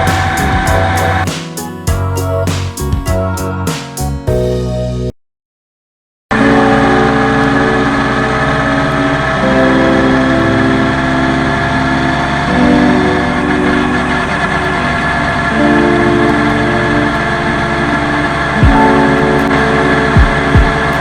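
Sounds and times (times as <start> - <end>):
held chord-like music: 0.0 - 5.1, 6.3 - 21.0.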